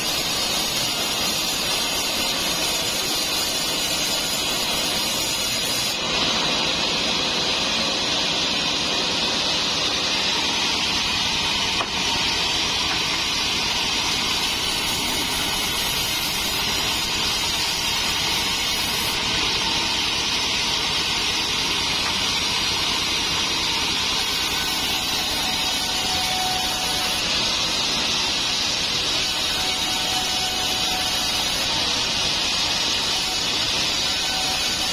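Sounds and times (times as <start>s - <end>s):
band saw cutting wood: 0.0s - 34.9s.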